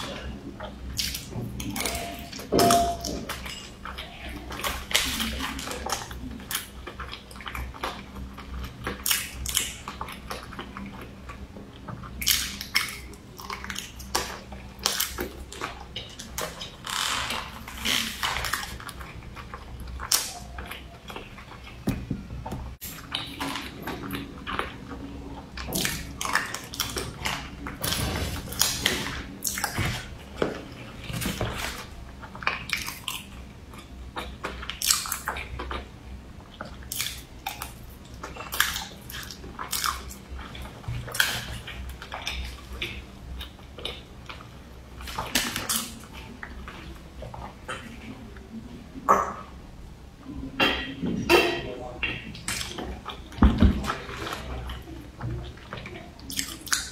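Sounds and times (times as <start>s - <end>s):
person chewing food: 0.0s - 48.6s.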